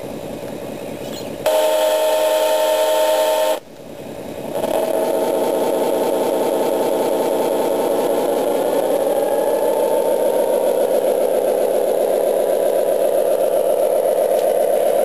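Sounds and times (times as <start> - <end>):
diesel engine running: 0.0 - 15.0
model locomotive horn blast: 1.4 - 3.7, 4.6 - 15.0.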